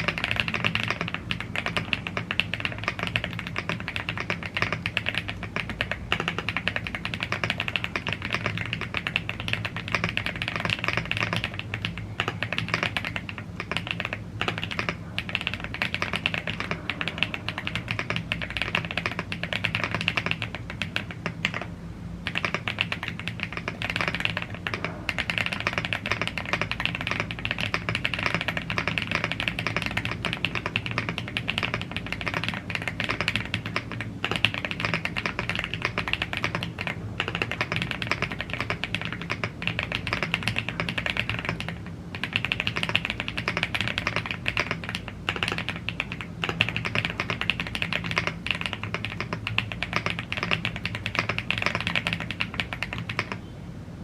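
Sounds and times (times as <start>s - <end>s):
mechanical keyboard typing: 0.0s - 53.5s.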